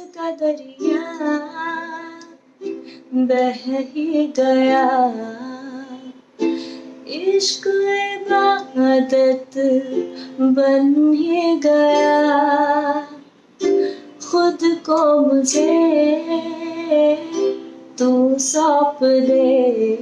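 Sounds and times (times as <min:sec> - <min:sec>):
woman singing: 0:00.0 - 0:02.4, 0:03.0 - 0:20.0
ukulele: 0:00.0 - 0:20.0.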